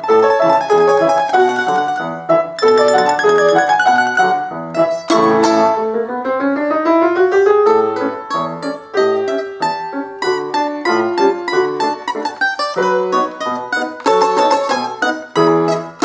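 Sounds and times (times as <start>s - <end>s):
lively piano music: 0.0s - 16.0s.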